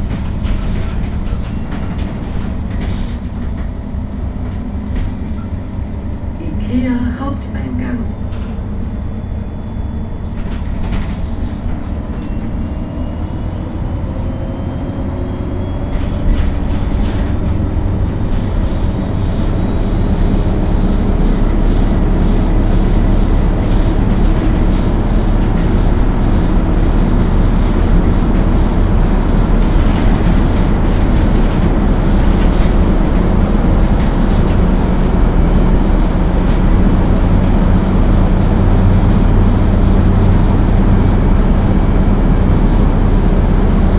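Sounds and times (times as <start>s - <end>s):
bus diesel engine droning: 0.0s - 43.9s
road noise: 0.0s - 43.9s.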